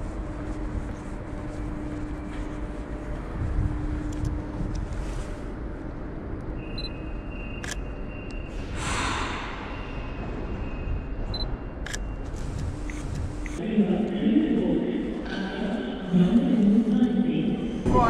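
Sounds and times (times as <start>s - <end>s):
low rumble of station ambience: 0.0s - 18.0s.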